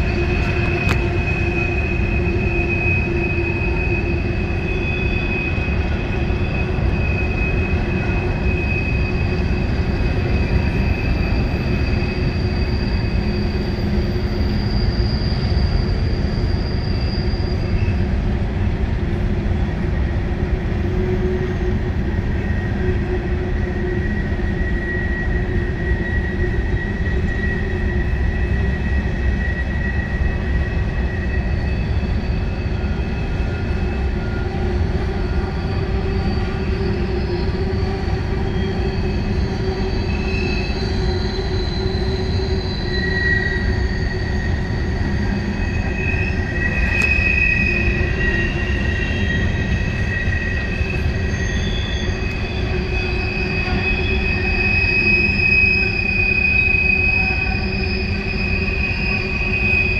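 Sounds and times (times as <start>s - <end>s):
high-pitched wheel squeals: 0.0s - 59.9s
train wheels rumbling on rails: 0.0s - 59.9s.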